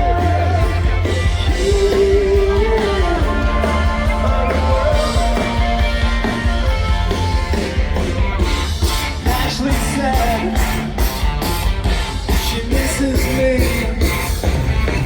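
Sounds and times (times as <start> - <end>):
bass: 0.0 - 15.0
drums: 0.0 - 15.0
electric guitar: 0.0 - 15.0
rock song with singer: 0.0 - 15.0.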